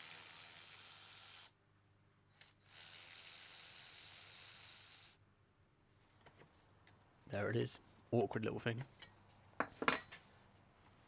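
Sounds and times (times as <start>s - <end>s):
faint recording hiss: 0.0s - 11.0s.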